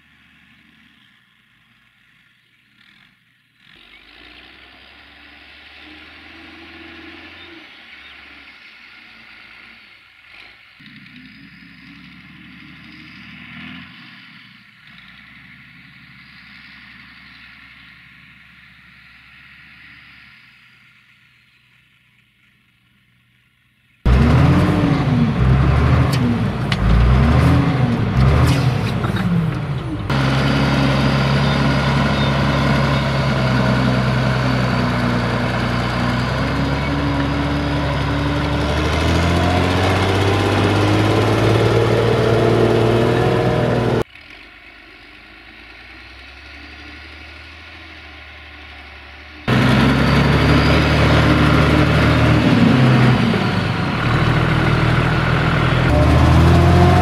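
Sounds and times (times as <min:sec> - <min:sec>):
tractor diesel engine working hard: 0:00.0 - 0:22.0, 0:24.1 - 0:57.0.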